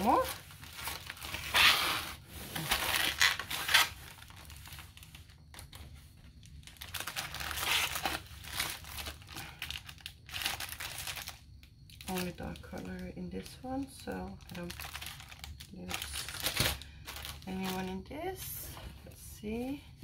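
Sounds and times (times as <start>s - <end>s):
bag and plastic packaging rustling: 0.0s - 19.8s.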